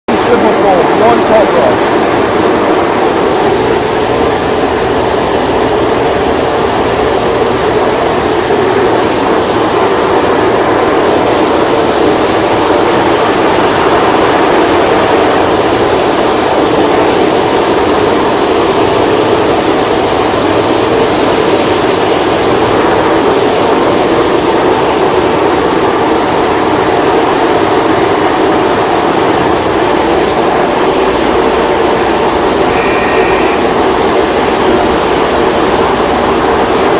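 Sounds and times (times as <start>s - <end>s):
car wash machine whooshing: 0.1s - 36.9s.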